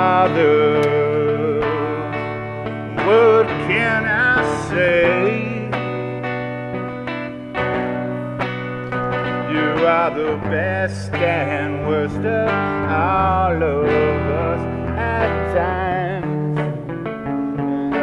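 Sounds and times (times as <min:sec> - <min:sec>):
long held bass notes: 0:00.0 - 0:18.0.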